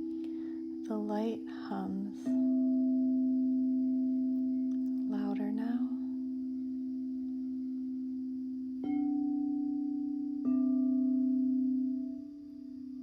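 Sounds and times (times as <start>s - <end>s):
singing bowl ringing: 0.0s - 13.0s.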